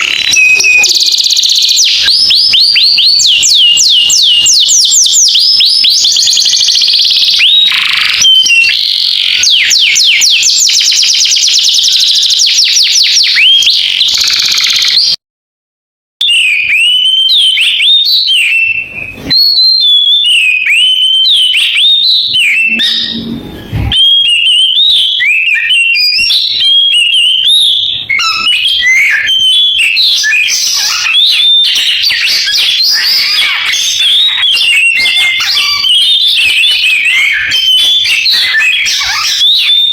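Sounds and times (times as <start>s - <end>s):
magpie-robin singing: 0.0s - 15.2s, 16.2s - 39.9s.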